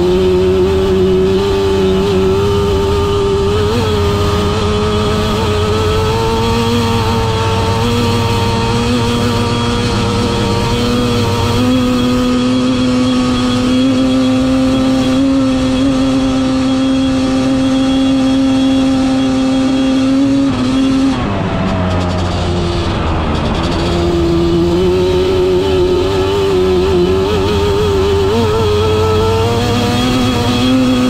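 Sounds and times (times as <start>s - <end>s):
motorcycle engine at high revs: 0.0s - 31.0s.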